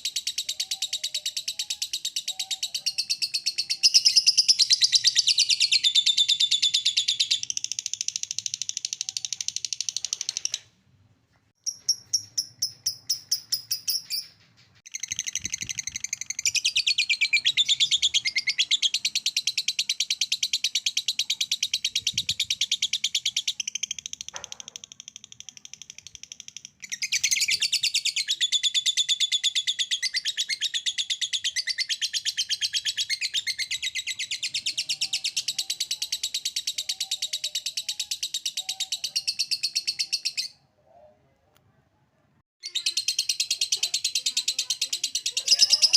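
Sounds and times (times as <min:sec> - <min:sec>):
lovebird shrill chirping: 0:00.0 - 0:10.6, 0:14.9 - 0:40.6, 0:42.6 - 0:45.9.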